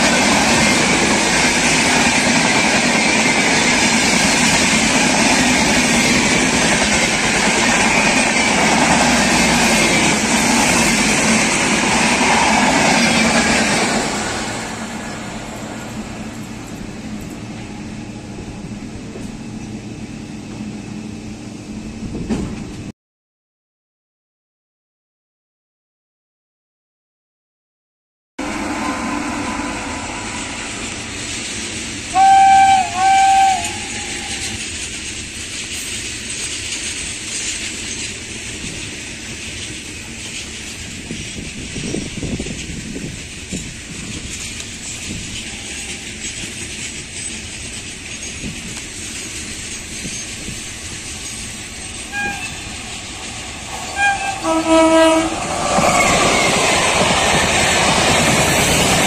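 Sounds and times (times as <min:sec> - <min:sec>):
wheels rattling on rails: 0:00.0 - 0:19.9, 0:28.5 - 0:59.0
passing train on next line: 0:00.0 - 0:22.9, 0:28.4 - 0:59.0
train running at speed: 0:00.0 - 0:22.9, 0:28.4 - 0:59.0.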